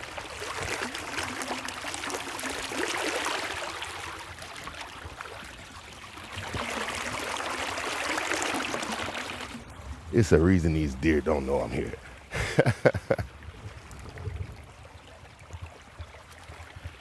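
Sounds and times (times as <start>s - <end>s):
creek water babbling over rocks: 0.0s - 17.0s.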